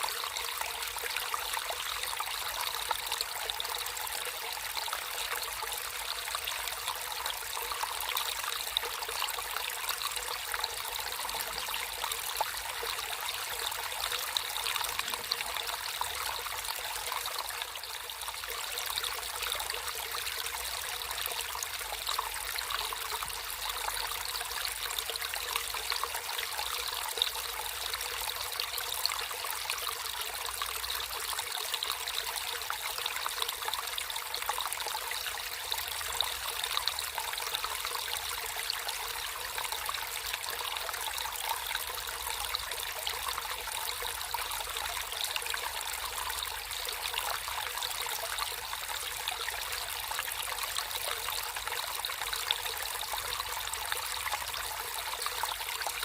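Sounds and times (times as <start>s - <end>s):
water babbling in a stream: 0.0s - 56.0s.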